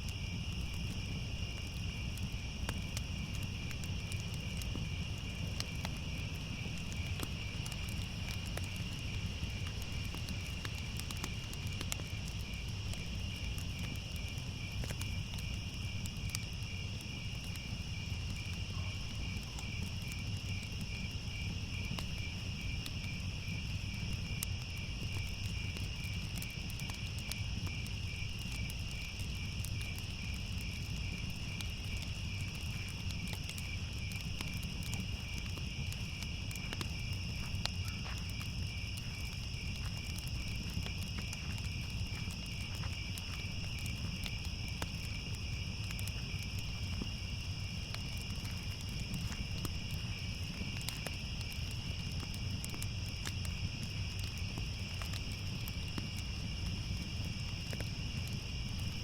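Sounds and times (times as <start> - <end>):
crickets chirping: 0.0 - 59.0
faint crackles: 0.0 - 59.0.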